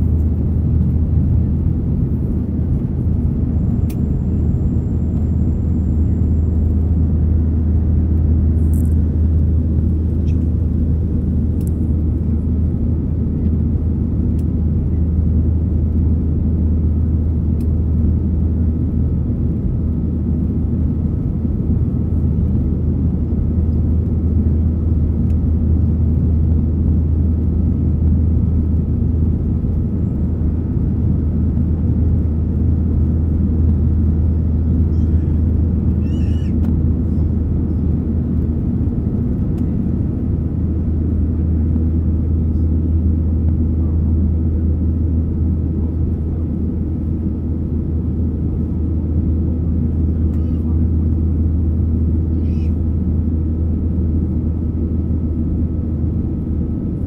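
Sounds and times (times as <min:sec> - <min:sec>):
faint steady whine: 0:00.0 - 0:57.0
jet engine rumble in cabin: 0:00.0 - 0:57.0.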